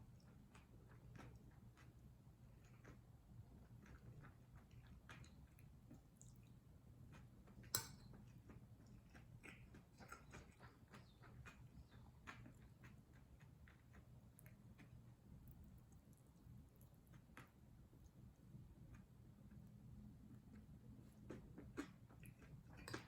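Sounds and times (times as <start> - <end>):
soft chewing: 0.0 - 23.0.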